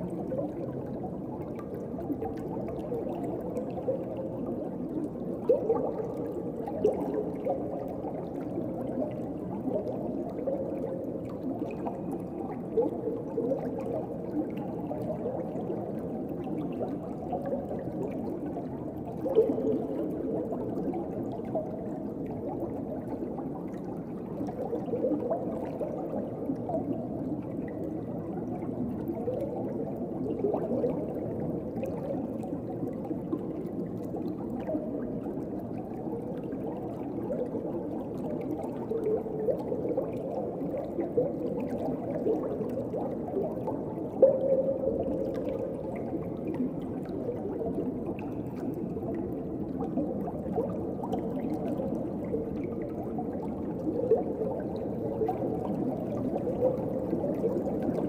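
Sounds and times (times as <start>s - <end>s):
bubbling and gurgles: 0.0s - 58.0s
muffled underwater water rush: 0.0s - 58.0s.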